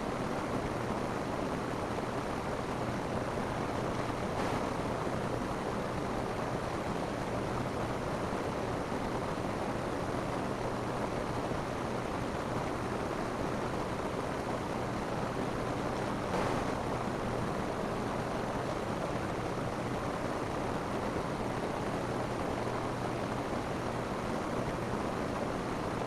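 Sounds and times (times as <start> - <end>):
rain falling on a roof: 0.1 - 26.0.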